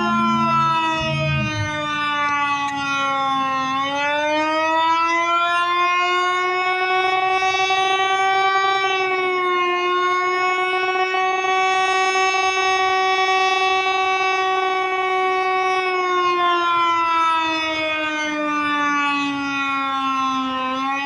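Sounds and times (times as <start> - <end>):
warning siren wailing: 0.0 - 21.0.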